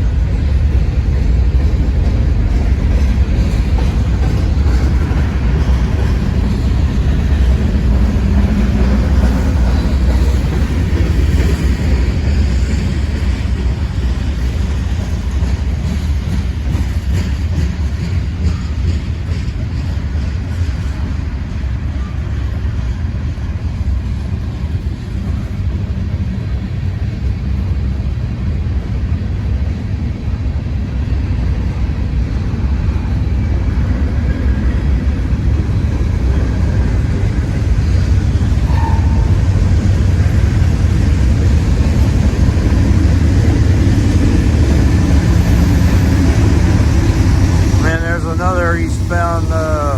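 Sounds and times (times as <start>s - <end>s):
freight train rumbling on rails: 0.0s - 49.9s.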